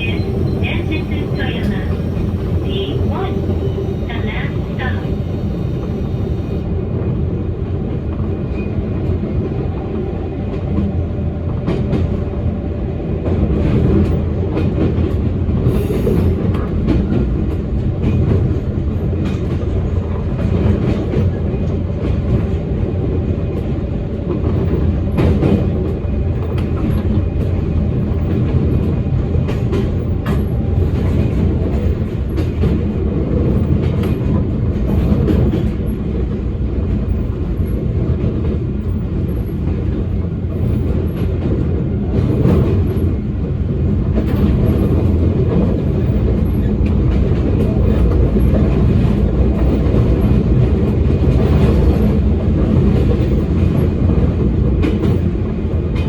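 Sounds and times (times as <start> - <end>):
rail joint clicks: 0.0 - 6.7, 13.2 - 56.0
train wheels rumbling on rail: 0.0 - 56.0.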